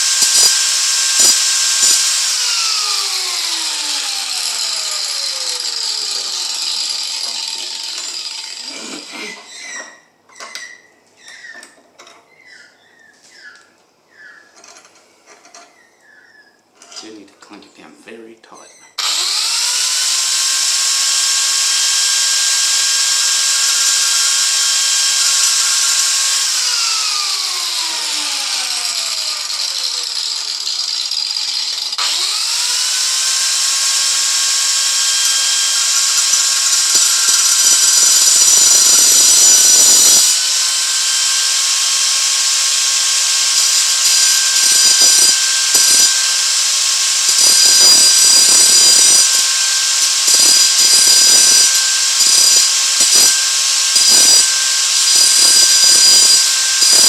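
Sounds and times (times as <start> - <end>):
power tool high whine: 0.0 - 9.6, 19.0 - 57.0.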